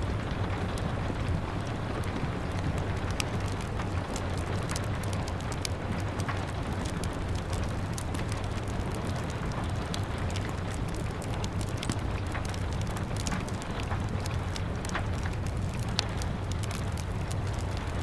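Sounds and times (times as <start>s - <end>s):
rain pattering on a window: 0.0s - 18.0s
wood fire crackling: 0.0s - 18.0s.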